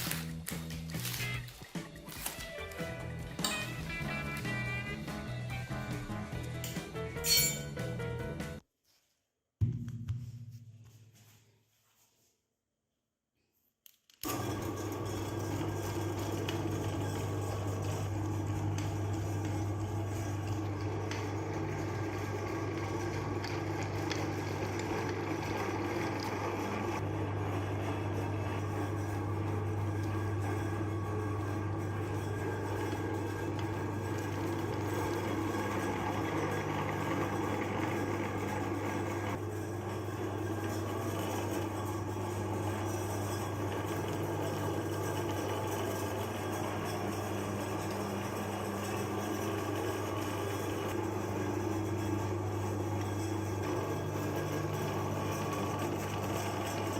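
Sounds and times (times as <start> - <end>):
electric meat grinder humming: 0.0 - 6.8, 14.2 - 56.9.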